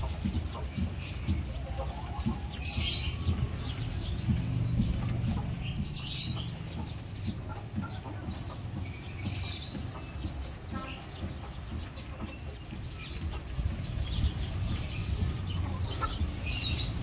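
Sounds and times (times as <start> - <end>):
sparrows chirping: 0.0 - 17.0
steady low rumble: 0.0 - 17.0.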